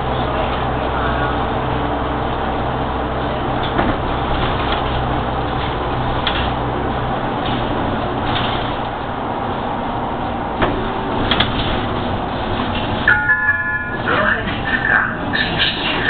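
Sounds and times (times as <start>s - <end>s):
bus diesel engine hum: 0.0s - 16.0s
road and cabin noise: 0.0s - 16.0s.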